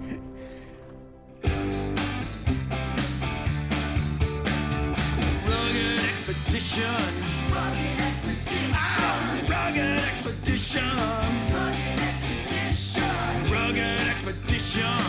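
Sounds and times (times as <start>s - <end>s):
rock music with singing: 1.5s - 15.0s.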